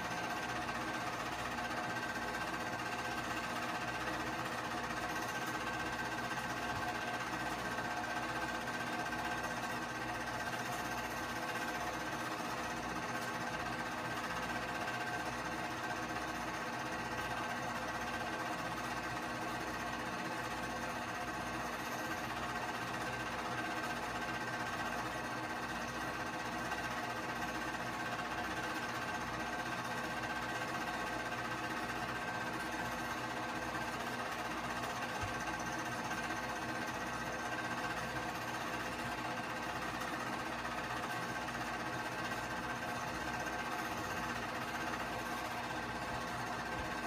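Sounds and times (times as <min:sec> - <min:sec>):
movie projector running: 0:00.0 - 0:47.0.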